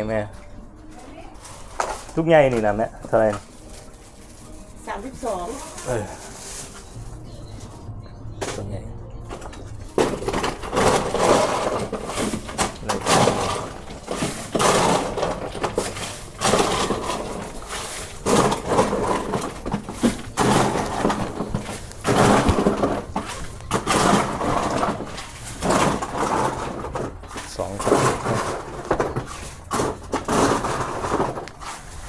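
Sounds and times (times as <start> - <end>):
ice cubes crunching and clattering: 0.0 - 7.8, 8.4 - 32.0.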